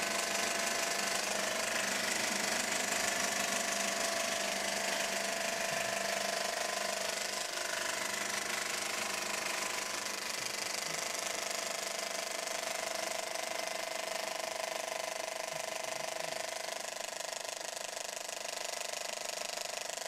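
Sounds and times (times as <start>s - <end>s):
film projector rattling: 0.0s - 20.0s.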